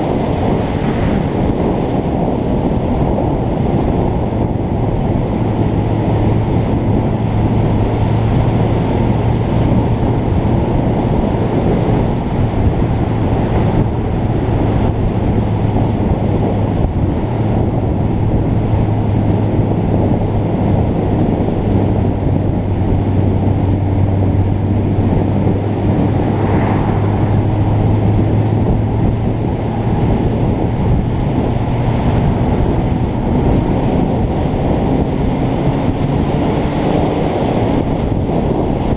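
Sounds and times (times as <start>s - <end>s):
motorcycle engine droning: 0.0s - 38.9s
wind rushing over microphone: 0.0s - 38.9s.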